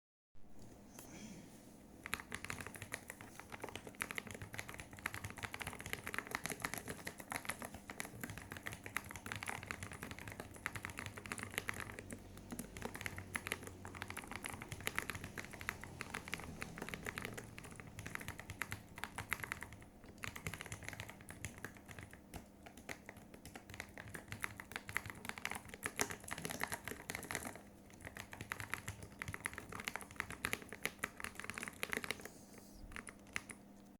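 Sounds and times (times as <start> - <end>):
typing on mechanical keyboard: 2.0 - 33.7.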